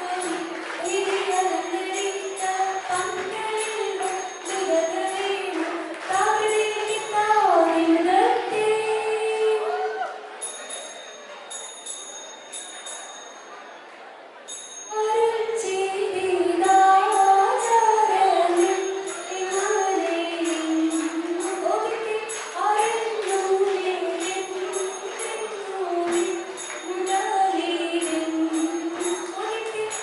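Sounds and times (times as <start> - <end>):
high jingling beat: 0.0 - 8.5, 10.4 - 13.7, 14.5 - 15.7, 16.6 - 30.0
woman singing: 0.0 - 10.0, 14.9 - 30.0.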